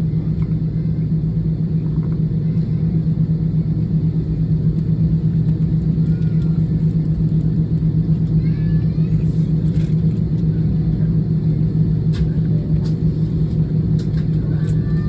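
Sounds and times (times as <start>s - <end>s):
jet engines droning in cabin: 0.0s - 15.0s.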